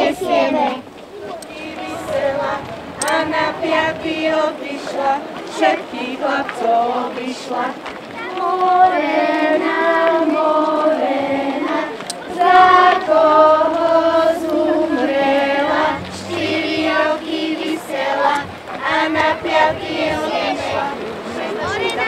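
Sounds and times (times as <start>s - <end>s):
children and women singing: 0.0s - 22.0s.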